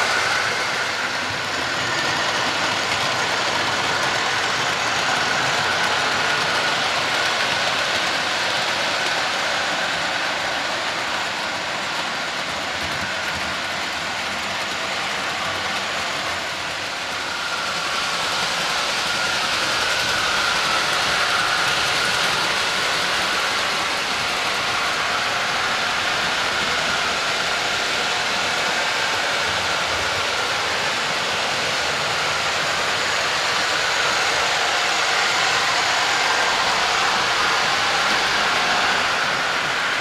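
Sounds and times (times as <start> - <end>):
model trains whirring on rails: 0.0 - 40.0.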